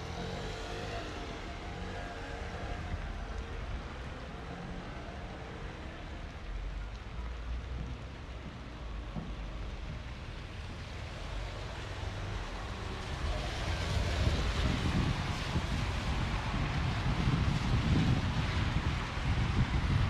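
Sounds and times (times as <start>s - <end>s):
rain falling on street: 0.0s - 20.0s.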